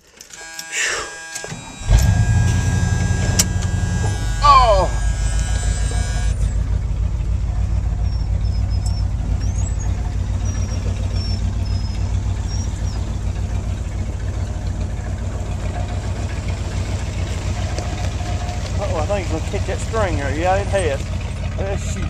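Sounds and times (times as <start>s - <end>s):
truck engine idling low: 1.5s - 22.0s.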